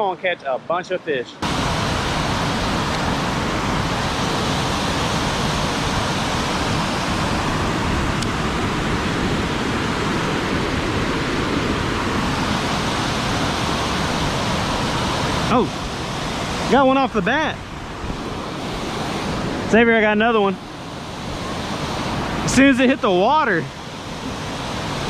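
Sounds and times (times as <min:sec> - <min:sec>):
creek water rushing: 0:01.4 - 0:25.0.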